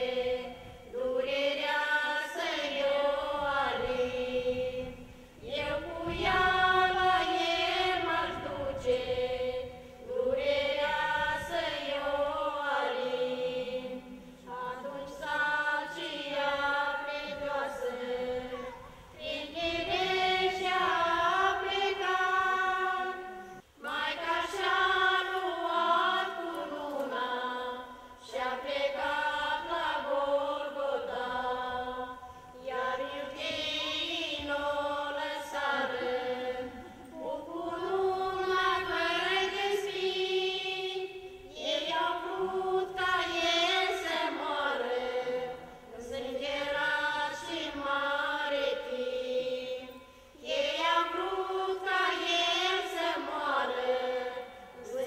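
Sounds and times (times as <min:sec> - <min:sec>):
choir of women singing: 0:00.0 - 0:55.0.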